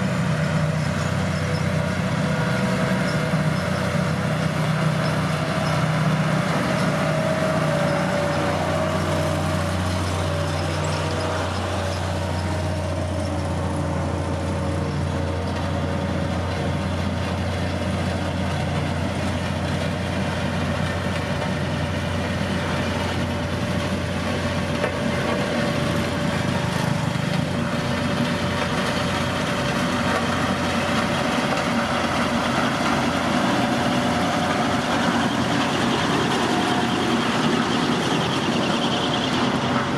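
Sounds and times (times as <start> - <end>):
diesel machinery engine hum: 0.0 - 39.9
steady engine whine: 0.0 - 39.9.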